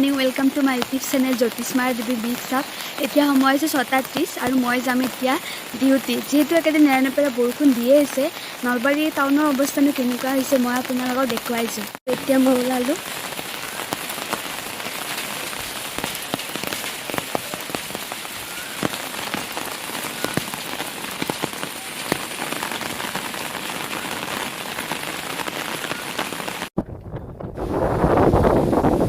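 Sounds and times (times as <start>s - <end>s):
raindrops ticking on surfaces: 0.0s - 26.7s
heavy rain: 0.0s - 26.8s.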